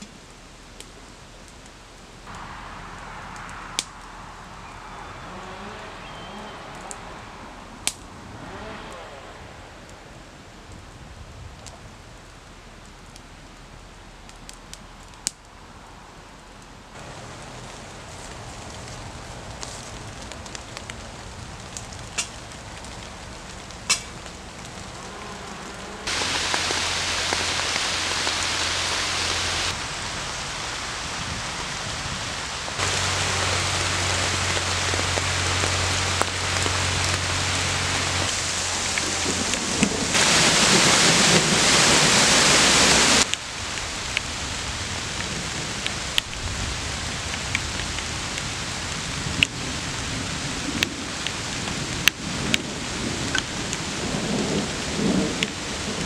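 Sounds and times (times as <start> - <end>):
rain on leaves and grass: 0.0 - 56.0.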